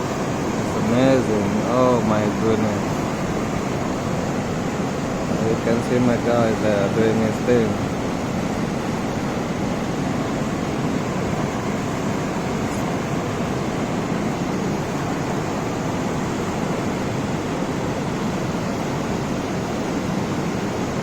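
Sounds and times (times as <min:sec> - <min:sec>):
river rushing over waterfalls: 0:00.0 - 0:21.0.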